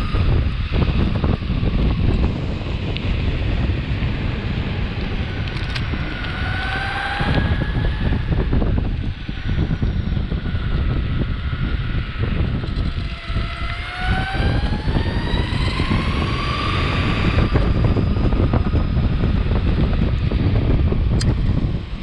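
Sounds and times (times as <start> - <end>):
electric motor whine: 0.0 - 22.0
wind rumble on microphone: 0.0 - 22.0
wheels rolling on pavement: 0.2 - 20.7.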